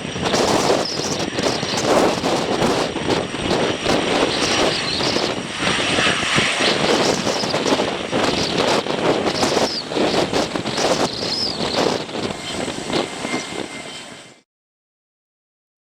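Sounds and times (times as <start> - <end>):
wind buffeting microphone: 0.0 - 14.4
aircraft engine noise: 0.0 - 14.5.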